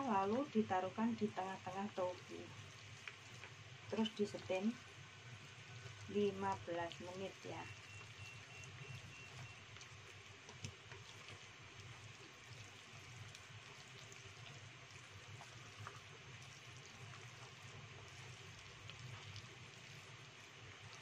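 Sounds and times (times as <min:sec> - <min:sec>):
low steady hum: 0:00.0 - 0:21.0
chopsticks squishing minced meat: 0:02.6 - 0:21.0.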